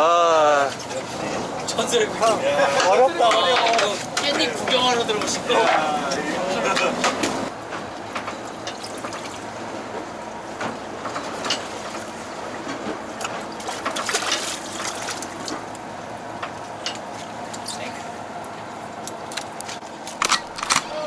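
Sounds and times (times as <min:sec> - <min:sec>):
water trickling and splashing: 0:00.4 - 0:20.1.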